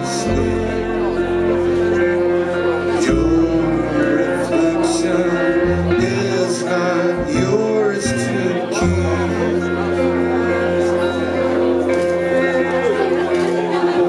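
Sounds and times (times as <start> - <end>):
instrumental live band music: 0.0 - 14.0.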